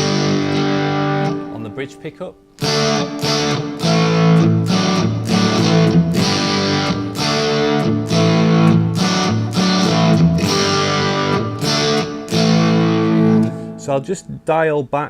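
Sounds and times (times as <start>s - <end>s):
overdriven electric guitar chords: 0.0s - 1.8s, 2.4s - 14.0s.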